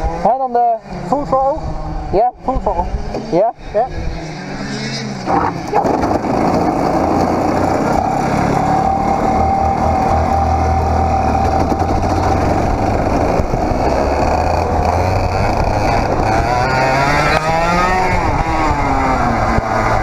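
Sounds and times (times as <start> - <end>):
two-stroke kart engine: 0.0 - 20.0.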